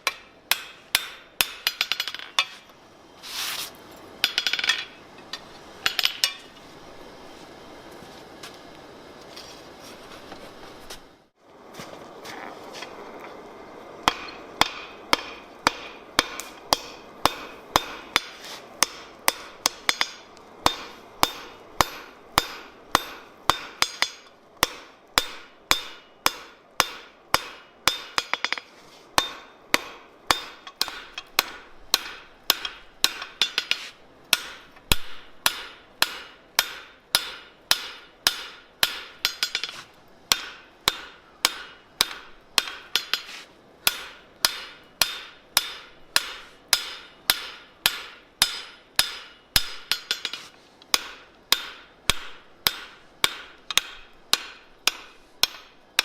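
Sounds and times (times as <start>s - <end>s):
hammer striking steel on anvil: 0.0s - 2.7s, 4.2s - 6.6s, 14.0s - 56.0s.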